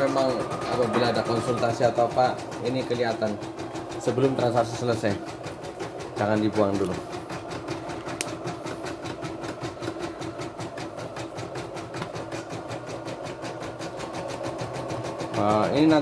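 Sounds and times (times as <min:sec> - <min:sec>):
embroidery machine stitching: 0:00.0 - 0:16.0.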